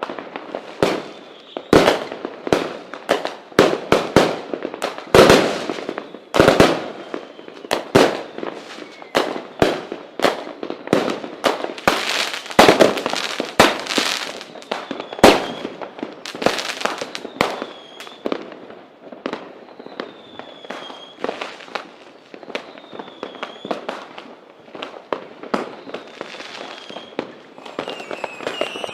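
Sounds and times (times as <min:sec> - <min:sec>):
falling firework whistles: 0:00.0 - 0:03.4, 0:04.0 - 0:28.9
fireworks bangs and crackling: 0:00.0 - 0:28.9.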